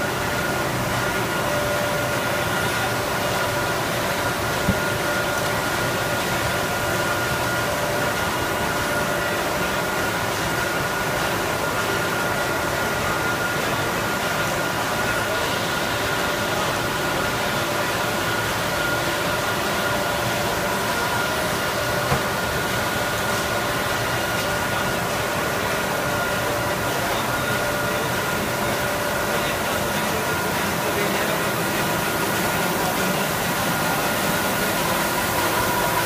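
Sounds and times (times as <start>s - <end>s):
industrial machinery hum: 0.0s - 36.0s.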